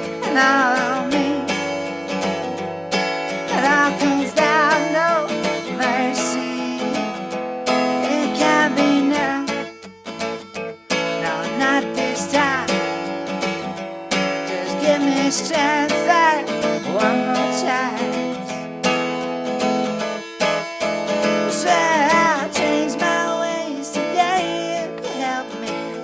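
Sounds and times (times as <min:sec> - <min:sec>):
bending lead guitar melody: 0:00.0 - 0:26.0
strummed acoustic guitar chords: 0:00.0 - 0:26.0.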